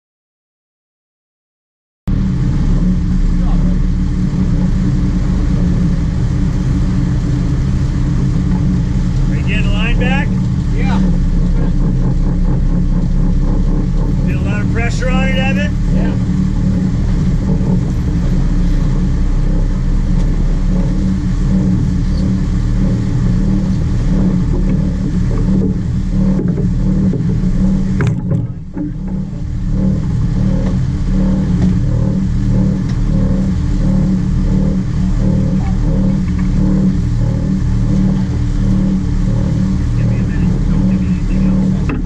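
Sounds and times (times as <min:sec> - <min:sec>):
boat engine droning: 0:02.1 - 0:42.0.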